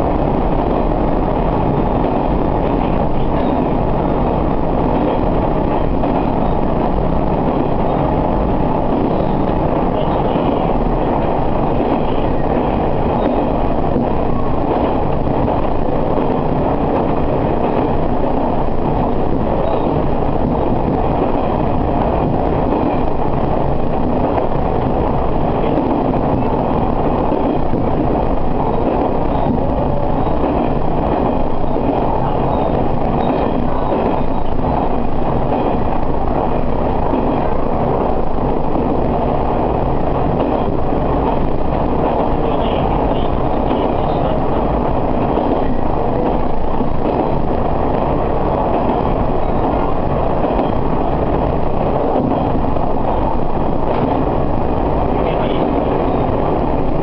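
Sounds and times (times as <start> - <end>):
train engine drone: 0.0 - 57.0
wheel-on-rail rumble: 0.0 - 57.0.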